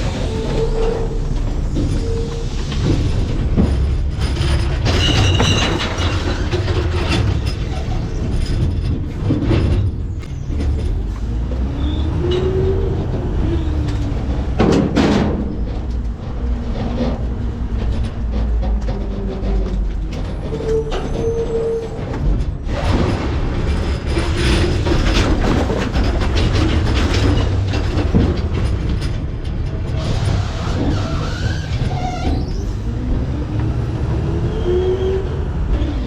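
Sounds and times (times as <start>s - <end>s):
garbage truck compactor rumbling: 0.0s - 36.0s
metallic creaks and squeals: 0.0s - 36.0s.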